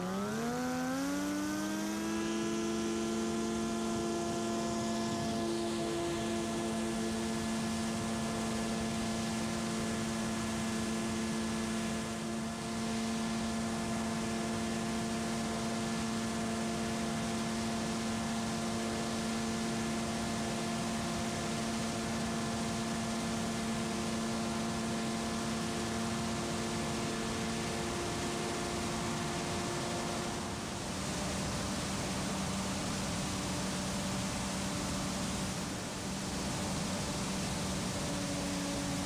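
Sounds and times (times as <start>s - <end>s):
aircraft engine and propeller drone: 0.0s - 39.0s.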